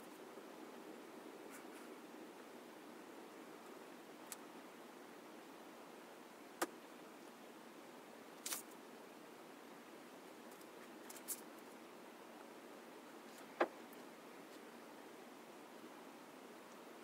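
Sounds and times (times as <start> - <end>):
faint room hiss: 0.0 - 17.0.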